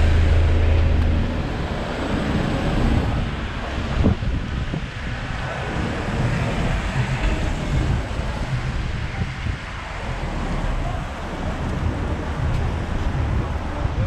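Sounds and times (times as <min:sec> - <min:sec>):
traffic on wet road: 0:00.0 - 0:14.0
wind buffeting microphone: 0:00.0 - 0:14.0.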